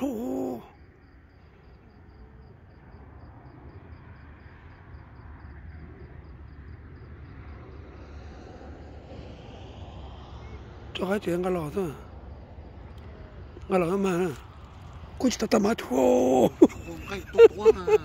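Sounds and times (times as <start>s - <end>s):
cricket chirping: 0.0s - 18.0s
low steady rumble: 0.8s - 18.0s.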